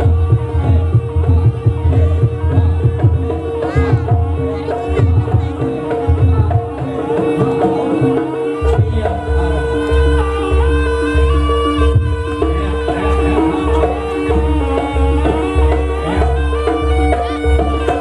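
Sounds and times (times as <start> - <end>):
hand drums playing: 0.0 - 18.0.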